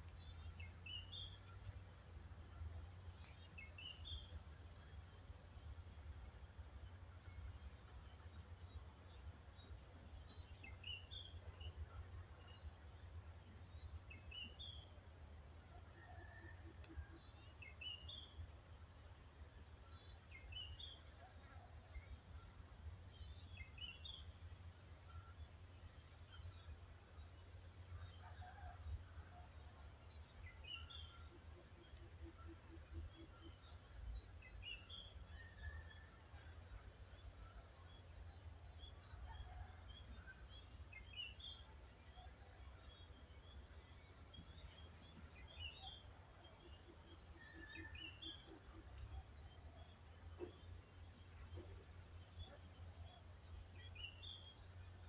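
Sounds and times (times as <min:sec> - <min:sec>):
faint birdsong chirps: 0:00.0 - 0:55.0.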